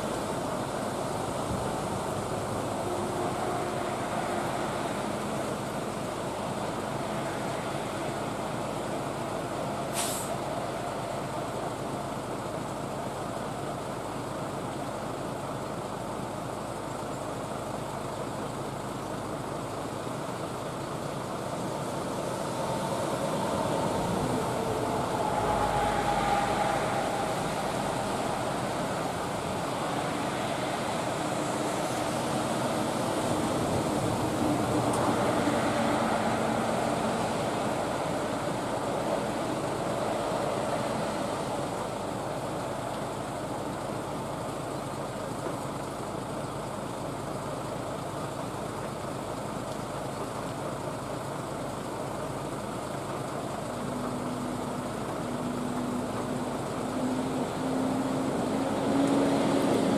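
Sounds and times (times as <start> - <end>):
low engine hum: 0.0 - 59.9
vehicles passing on wet road: 0.0 - 59.9.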